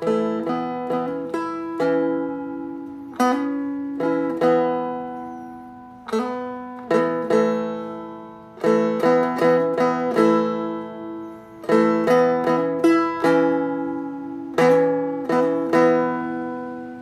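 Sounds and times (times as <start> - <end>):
strum stick plucked and strummed: 0.0 - 17.0.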